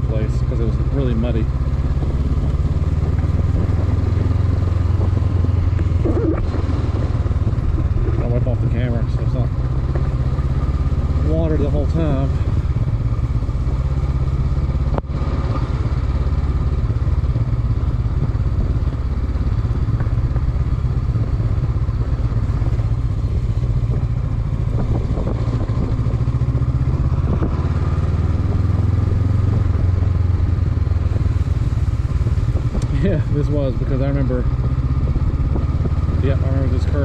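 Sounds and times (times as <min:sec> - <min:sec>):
motorcycle engine droning: 0:00.0 - 0:37.0.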